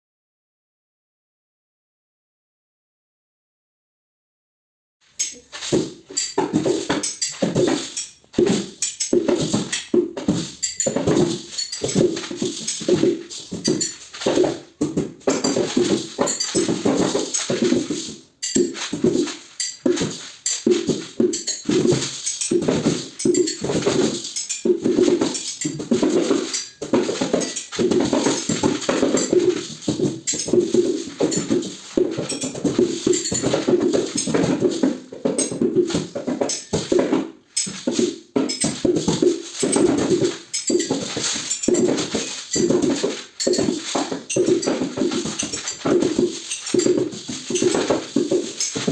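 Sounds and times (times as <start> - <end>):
hand percussion with jingles: 5.1 - 48.9.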